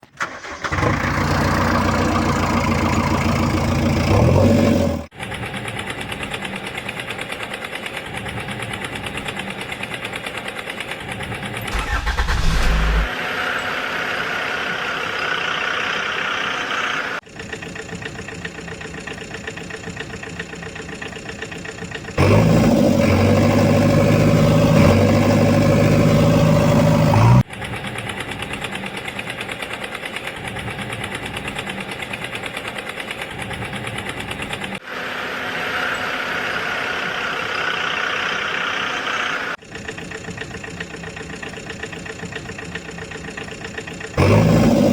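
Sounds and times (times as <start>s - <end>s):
vehicle engines running: 0.2s - 44.9s.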